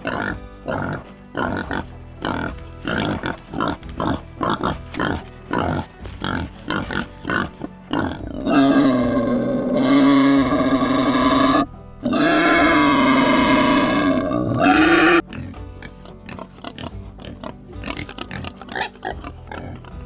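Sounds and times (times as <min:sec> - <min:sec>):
wild boar grunting: 0:00.0 - 0:20.0
wild boar squealing: 0:00.0 - 0:20.0.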